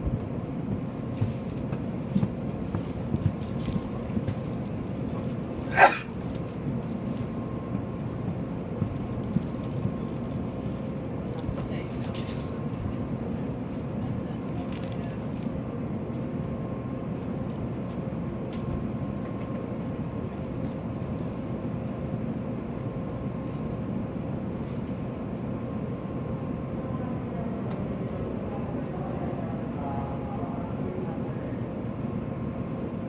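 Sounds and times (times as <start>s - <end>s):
train equipment hum and rumble: 0.0s - 33.0s.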